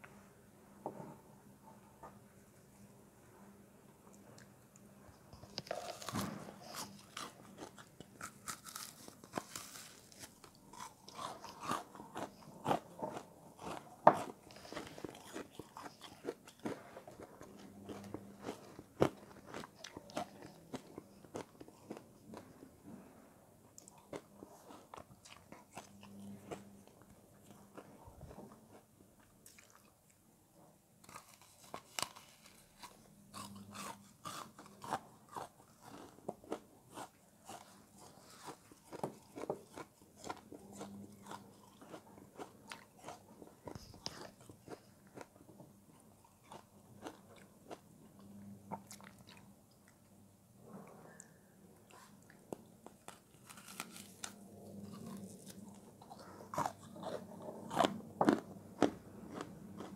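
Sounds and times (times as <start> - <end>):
crunchy chewing of foam: 4.1 - 23.1, 23.7 - 30.2, 31.0 - 59.9.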